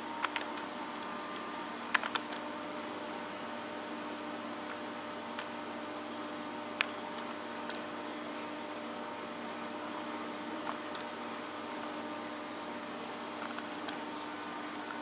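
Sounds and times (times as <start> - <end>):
aquarium pumps humming: 0.0 - 9.1, 9.8 - 15.0.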